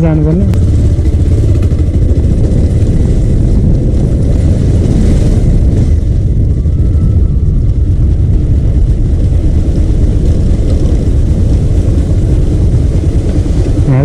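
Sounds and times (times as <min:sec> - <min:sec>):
motorcycle engine rumble: 0:00.0 - 0:14.0
wind on microphone: 0:00.0 - 0:14.0.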